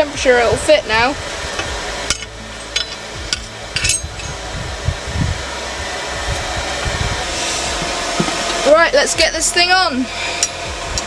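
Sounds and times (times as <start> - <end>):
forge air blast rushing: 0.0 - 11.0.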